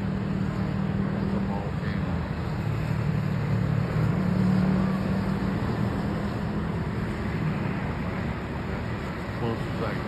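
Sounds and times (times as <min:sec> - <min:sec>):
low engine-like drone: 0:00.0 - 0:10.0.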